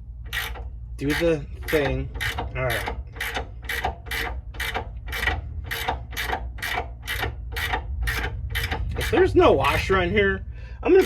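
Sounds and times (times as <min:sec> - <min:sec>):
ratchet wrench rasping: 0:00.2 - 0:09.3.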